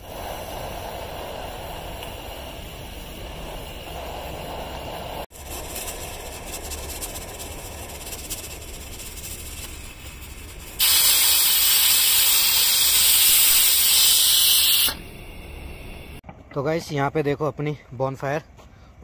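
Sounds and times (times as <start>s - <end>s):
pressure cooker venting steam: 0.0s - 16.2s.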